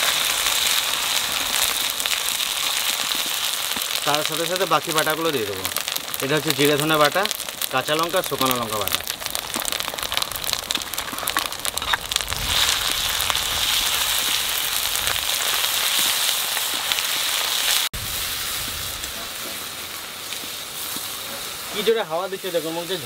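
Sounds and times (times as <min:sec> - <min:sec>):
pastes sizzling in hot oil: 0:00.0 - 0:23.0.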